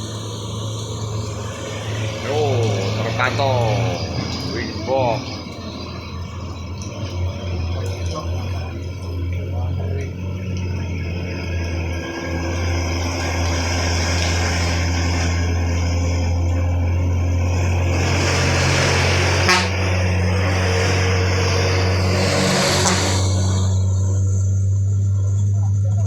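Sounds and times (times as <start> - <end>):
heavy vehicle engine droning: 0.0 - 26.0
tyre and road noise: 0.0 - 26.0.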